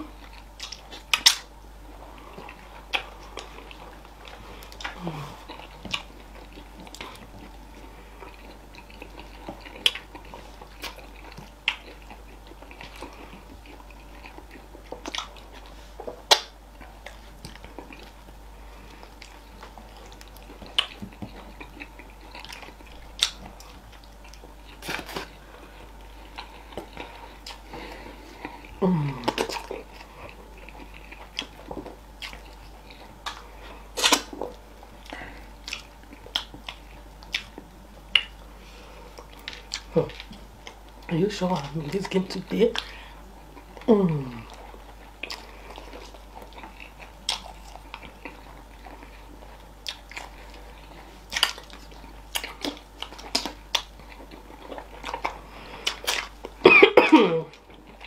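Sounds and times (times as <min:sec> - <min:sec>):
people chewing: 0:00.0 - 0:58.0.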